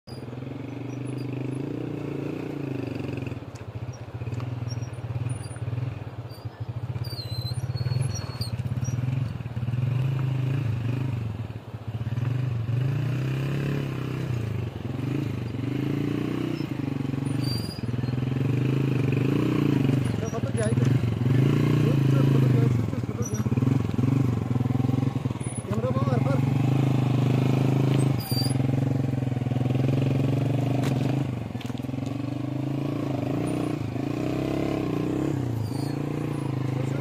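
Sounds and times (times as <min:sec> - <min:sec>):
motorcycle engine running: 0:00.1 - 0:37.0.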